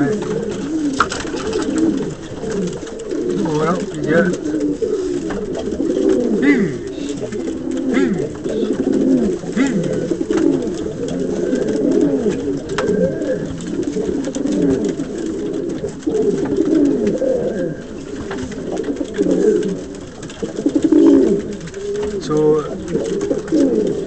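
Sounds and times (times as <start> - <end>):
pigeon cooing: 0.0 - 24.0.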